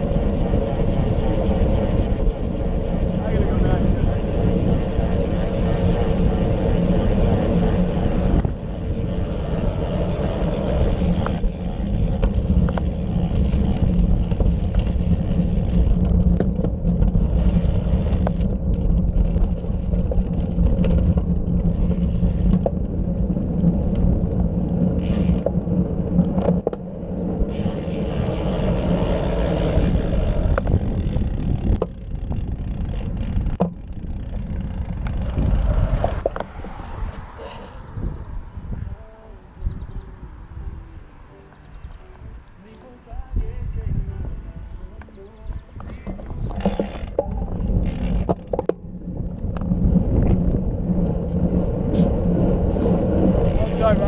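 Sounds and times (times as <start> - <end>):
road rumble of bike: 0.0 - 54.0
wind on microphone: 0.0 - 54.0.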